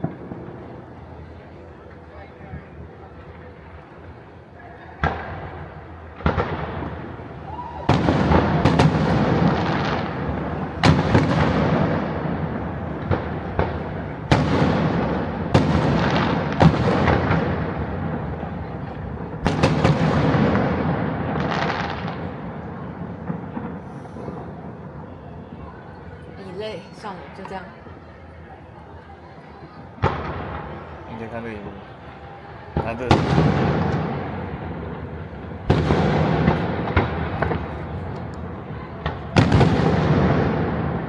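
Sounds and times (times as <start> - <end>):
fireworks bangs with crackle: 0.0 - 4.0, 5.0 - 27.8, 29.9 - 41.0.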